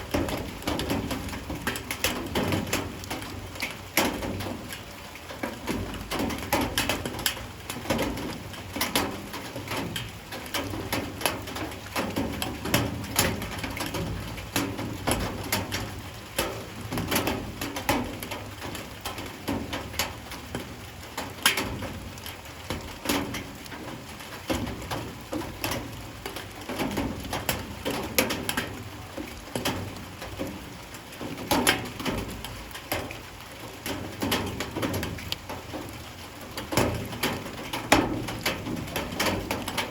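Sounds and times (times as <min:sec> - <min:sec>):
light rain: 0:00.0 - 0:39.9.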